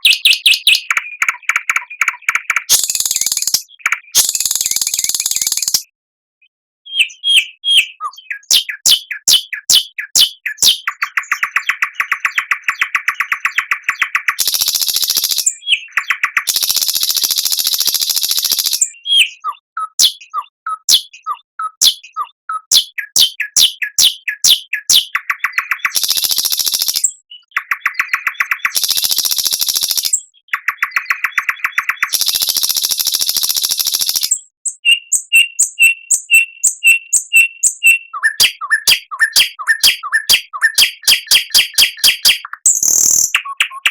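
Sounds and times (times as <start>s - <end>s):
songbird singing: 0.0s - 43.9s.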